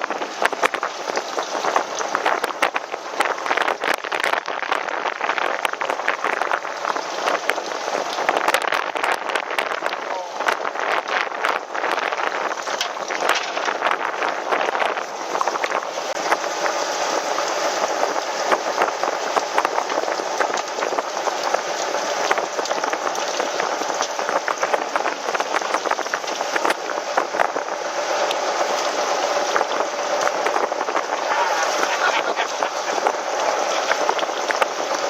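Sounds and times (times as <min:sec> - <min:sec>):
rushing splashing water: 0:00.0 - 0:35.0
small crackles and ticks: 0:00.0 - 0:35.0.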